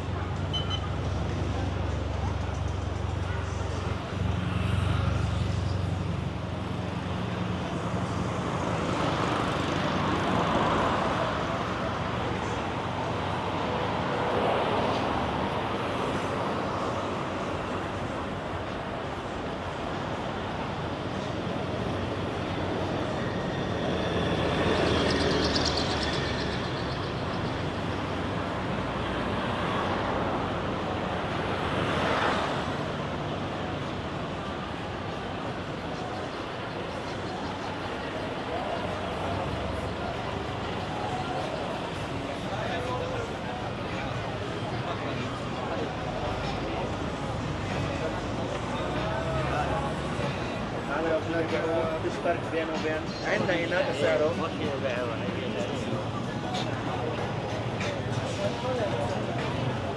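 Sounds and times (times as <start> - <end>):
passing traffic: 0.0 - 59.9
vehicle engine droning nearby: 0.0 - 59.9.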